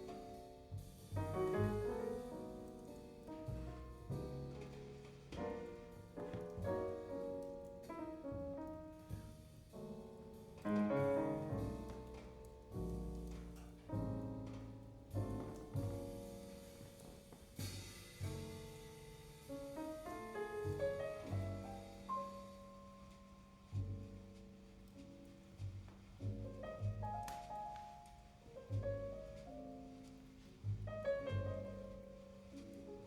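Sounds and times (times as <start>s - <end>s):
double bass line: 0.0s - 33.0s
piano notes and chords: 0.0s - 33.0s.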